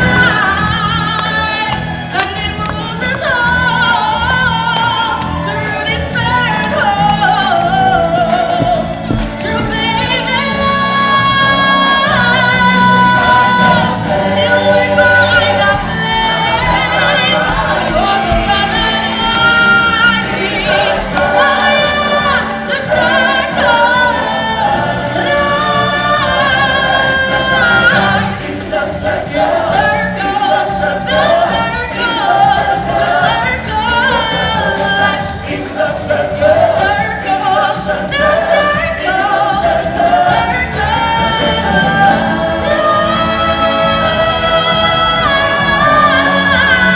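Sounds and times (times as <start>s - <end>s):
choir singing over backing track: 0.0s - 46.9s.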